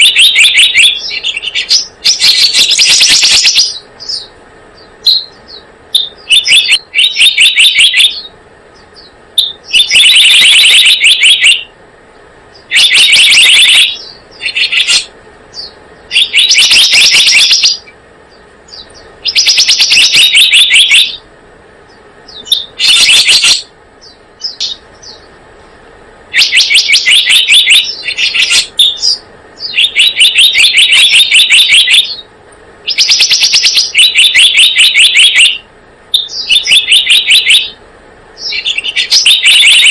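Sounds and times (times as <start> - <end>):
bird trilled chatters: 0.0 - 11.7, 12.5 - 21.2, 21.9 - 25.3, 26.3 - 32.3, 32.9 - 37.8, 38.4 - 39.9.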